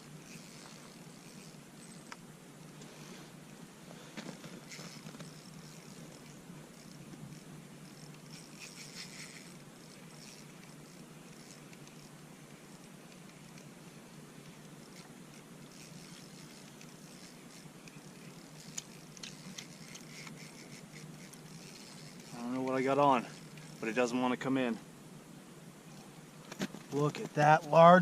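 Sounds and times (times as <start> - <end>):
low steady hum: 0.0 - 28.0
small handling clicks and crackles: 0.2 - 13.8, 14.4 - 24.0, 26.0 - 27.9.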